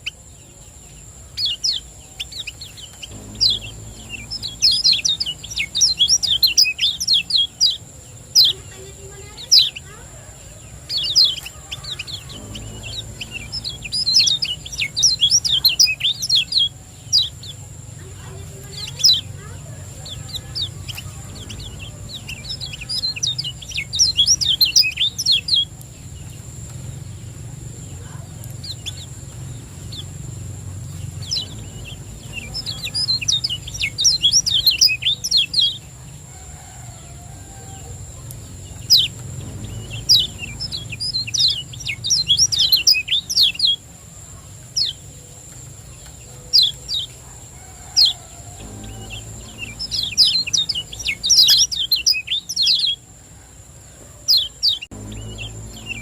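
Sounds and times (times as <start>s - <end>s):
bird singing rapid high chirps: 0.0s - 36.0s, 37.9s - 45.1s, 47.8s - 53.1s, 54.3s - 56.0s.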